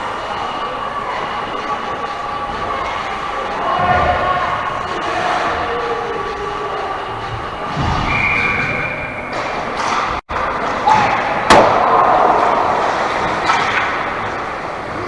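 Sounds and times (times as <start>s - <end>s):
steady din: 0.0s - 14.7s.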